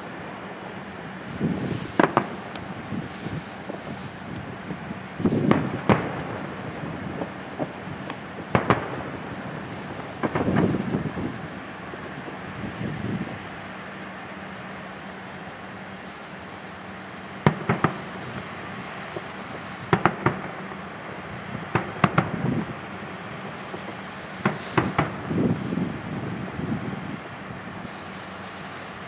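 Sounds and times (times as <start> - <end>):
distant fireworks bangs: 1.1 - 29.0.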